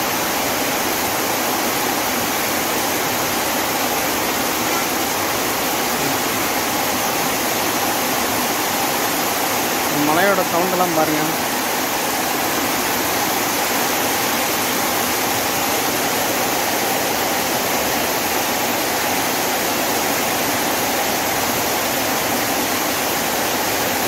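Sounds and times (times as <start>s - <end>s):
heavy rain on a metal roof: 0.0s - 24.0s.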